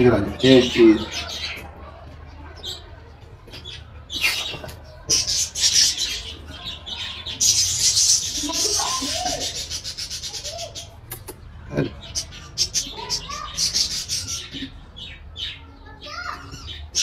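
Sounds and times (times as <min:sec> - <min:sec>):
parakeet chicks begging calls: 0:00.0 - 0:17.0.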